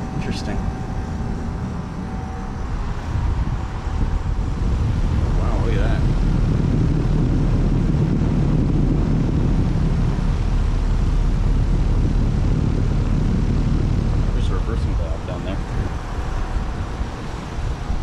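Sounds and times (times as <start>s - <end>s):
heat pump fan rushing air: 0.0s - 18.0s.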